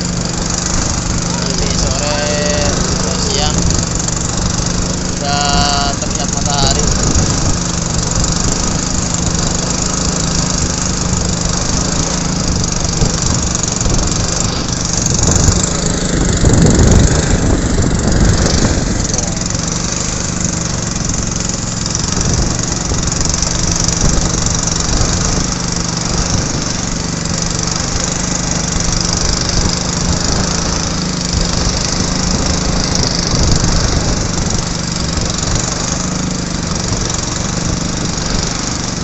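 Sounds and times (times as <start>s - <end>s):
boat engine drone: 0.0s - 39.0s
rough water: 0.0s - 39.0s
strong wind: 0.0s - 39.0s.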